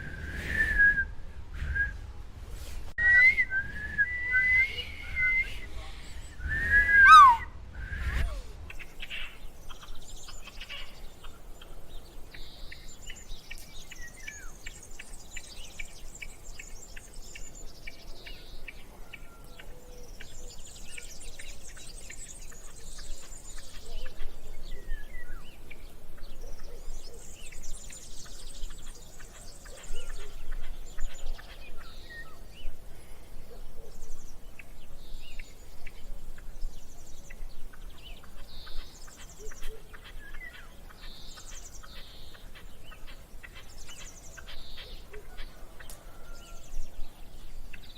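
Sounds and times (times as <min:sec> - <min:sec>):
birds chirping: 0:03.0 - 0:07.6, 0:08.2 - 0:47.9.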